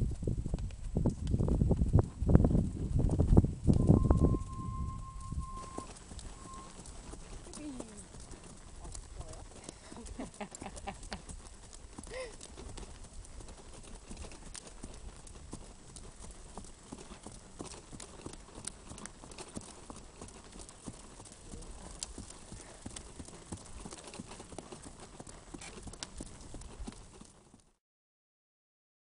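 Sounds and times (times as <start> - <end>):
hooves clip-clopping on dirt: 0.0 - 27.8.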